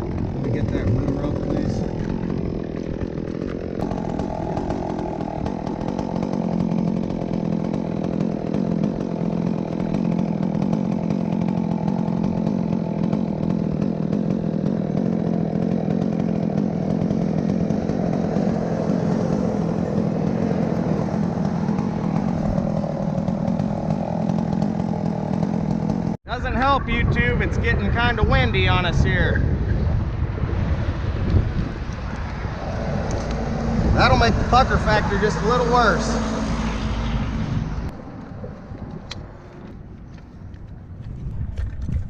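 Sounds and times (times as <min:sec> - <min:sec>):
chainsaw engine running: 0:00.0 - 0:29.6, 0:31.2 - 0:42.0.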